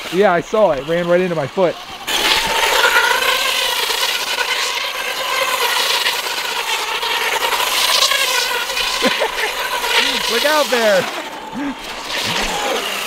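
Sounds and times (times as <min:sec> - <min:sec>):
toy truck motor whine: 0:00.0 - 0:13.0
tyres hissing on snow: 0:00.0 - 0:13.0.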